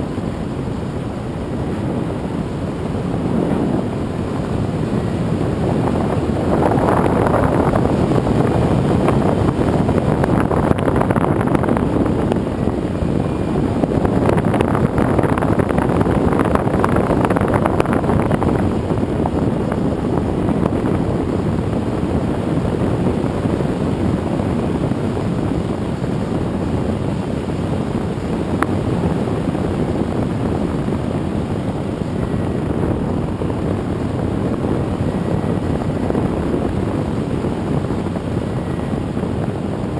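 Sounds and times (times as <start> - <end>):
model airplane propeller: 0.0 - 39.9
wind rushing: 0.0 - 39.9.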